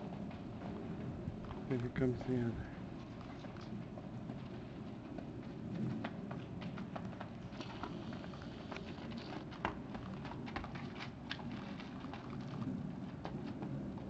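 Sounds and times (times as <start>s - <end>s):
hooves running on dirt: 0.0s - 14.0s.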